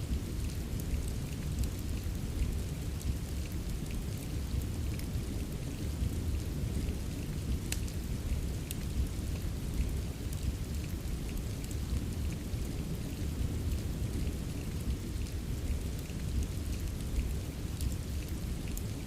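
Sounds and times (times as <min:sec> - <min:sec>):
fire crackling: 0:00.0 - 0:19.0
rain: 0:00.0 - 0:19.0.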